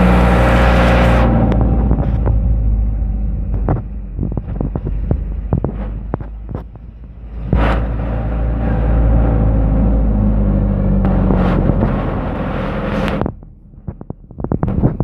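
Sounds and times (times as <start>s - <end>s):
truck engine running: 0.0s - 15.0s
sharp knocks and rattles: 0.9s - 15.0s.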